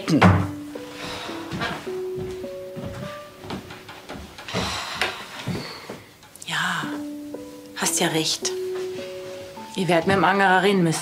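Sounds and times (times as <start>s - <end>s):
soft background score: 0.0s - 11.0s.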